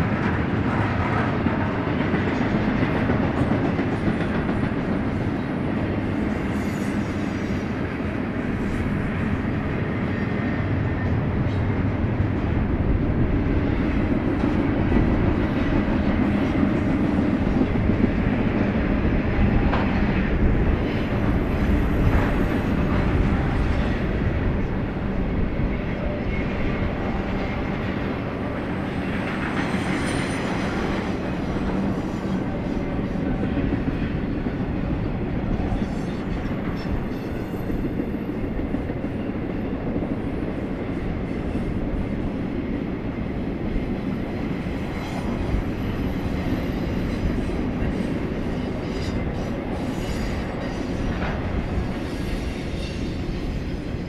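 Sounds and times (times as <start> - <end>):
clickety-clack of rails: 0.0 - 54.0
train wheels rumbling on track: 0.0 - 54.0.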